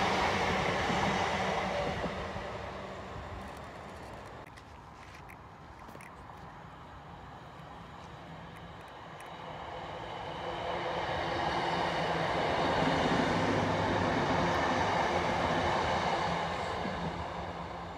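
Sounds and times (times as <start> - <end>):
steady train hum: 0.0 - 17.9.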